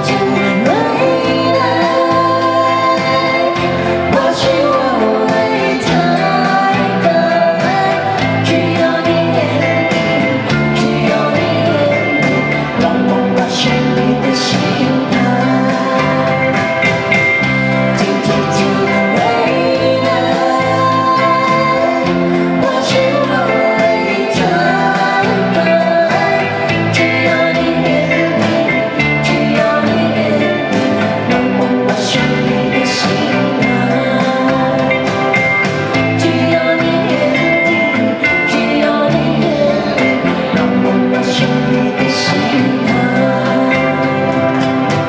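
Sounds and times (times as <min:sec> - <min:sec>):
electric and acoustic guitars: 0:00.0 - 0:45.0
person singing: 0:00.0 - 0:45.0
pulsing bass line: 0:00.0 - 0:45.0.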